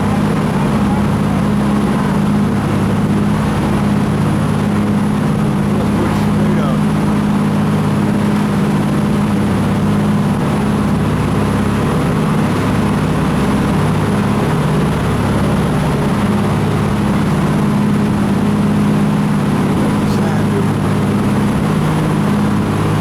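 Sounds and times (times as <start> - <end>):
boat engine drone: 0.0 - 23.0
rush of water and air: 0.0 - 23.0.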